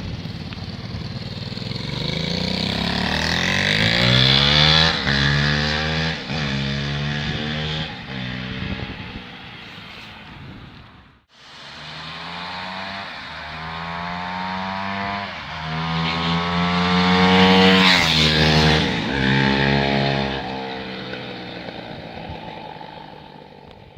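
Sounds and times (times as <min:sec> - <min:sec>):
motorcycle engine revving past: 0:00.0 - 0:09.9, 0:11.4 - 0:23.9.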